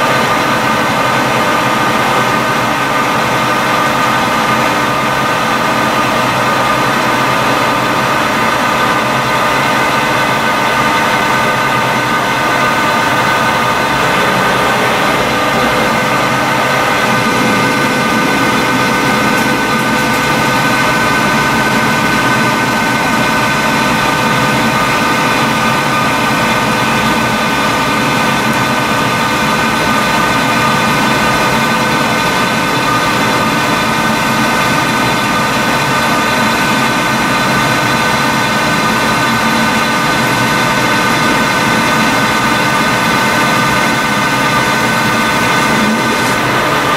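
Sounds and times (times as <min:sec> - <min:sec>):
lathe whining over hum: 0:00.0 - 0:46.9.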